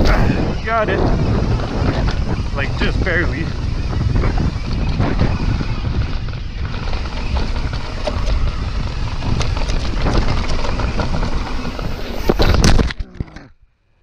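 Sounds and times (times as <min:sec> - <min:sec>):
wind buffeting microphone: 0:00.0 - 0:13.3
low tyre rumble: 0:00.0 - 0:13.9
bike clicks and rattles: 0:01.0 - 0:13.5.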